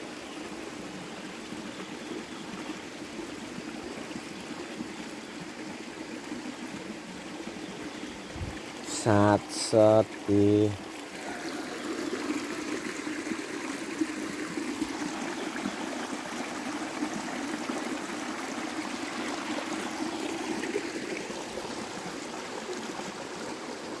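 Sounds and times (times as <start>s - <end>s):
stream flowing over stones: 0.0s - 24.0s.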